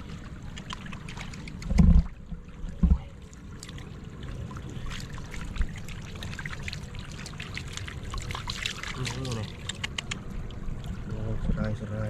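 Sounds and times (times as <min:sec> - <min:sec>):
shallow water splashing and trickling: 0:00.0 - 0:12.0.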